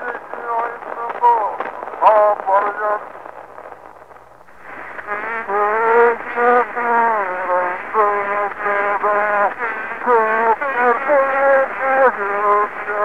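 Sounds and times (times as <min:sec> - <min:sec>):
man chanting verse: 0:00.0 - 0:03.0, 0:05.5 - 0:13.0
recording hiss and hum: 0:00.0 - 0:13.0.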